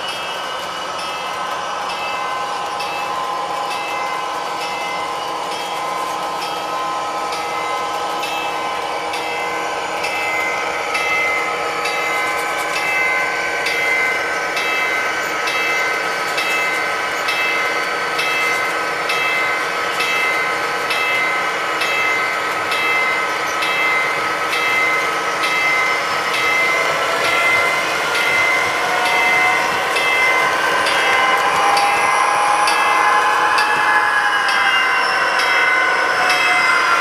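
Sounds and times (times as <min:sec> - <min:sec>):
model train whine: 0:00.0 - 0:37.0.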